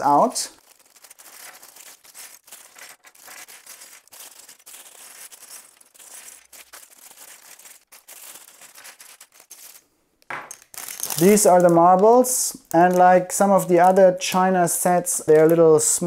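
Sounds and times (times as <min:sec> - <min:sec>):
plastic bag rustling: 0:00.0 - 0:09.8, 0:10.6 - 0:14.0.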